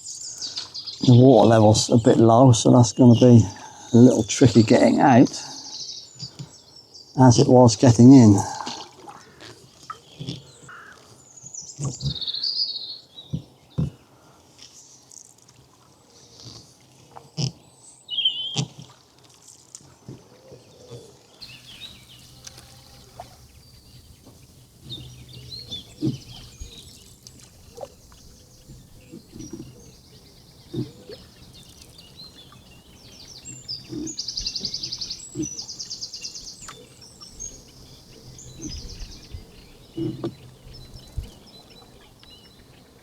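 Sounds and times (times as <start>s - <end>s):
birds singing and calling: 0.0s - 13.9s, 17.6s - 18.6s, 20.6s - 43.0s.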